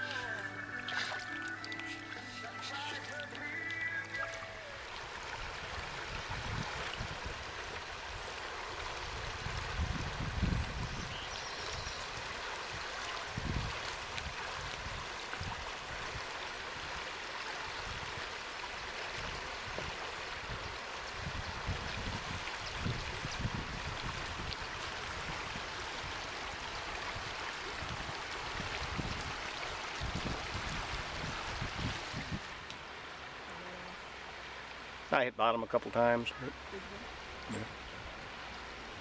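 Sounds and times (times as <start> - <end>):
river water rushing: 0.0 - 35.3, 35.9 - 39.0.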